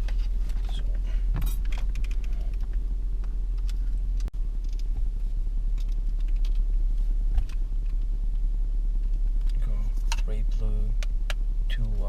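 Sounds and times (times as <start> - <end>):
car engine idling in cabin: 0.0 - 12.0.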